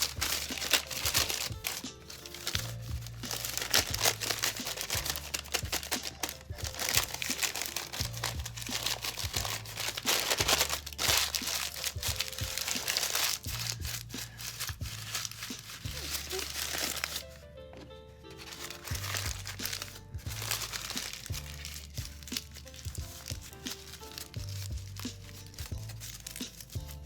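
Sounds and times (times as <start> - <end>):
masking tape tearing: 0.0 - 17.4, 18.4 - 27.0
background music with low bass: 0.0 - 27.0
paper crinkling: 0.0 - 27.0.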